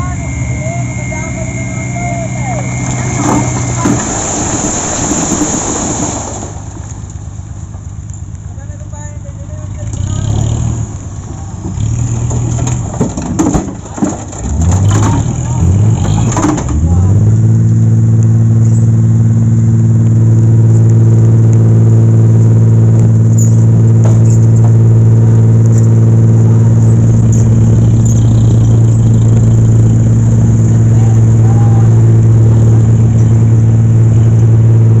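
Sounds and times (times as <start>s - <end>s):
truck engine droning: 0.0s - 35.0s.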